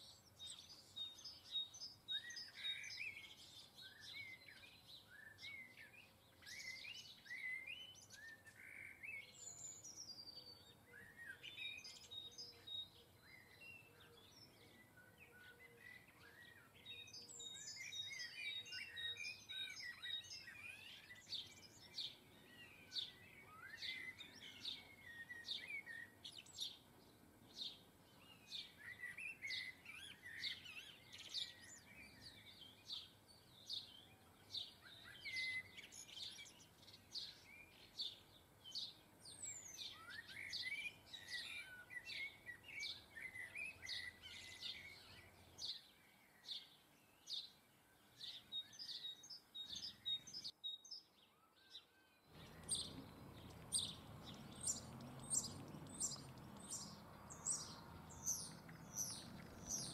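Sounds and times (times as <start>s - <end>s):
songbirds chirping and twittering: 0.0s - 59.9s.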